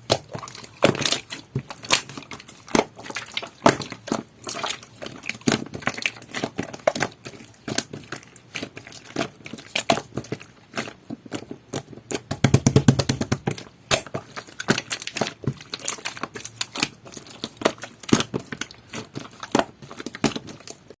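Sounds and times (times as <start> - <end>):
slime clicking and popping: 0.0 - 20.8.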